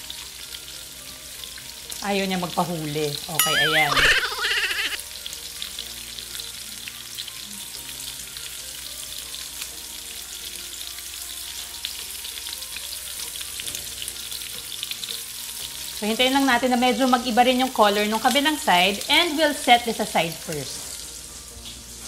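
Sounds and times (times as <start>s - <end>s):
shrimp sizzling in oil: 0.0s - 22.0s.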